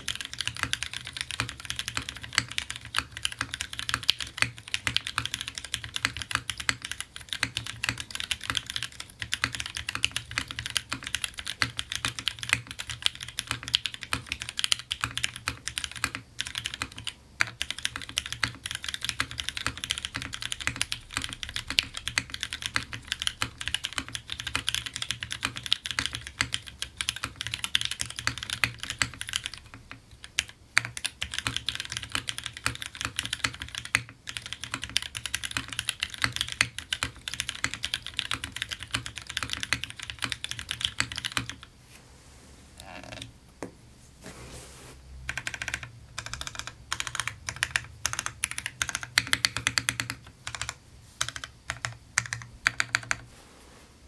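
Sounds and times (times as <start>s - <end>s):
fast mechanical keyboard typing: 0.0s - 41.7s, 45.3s - 53.3s.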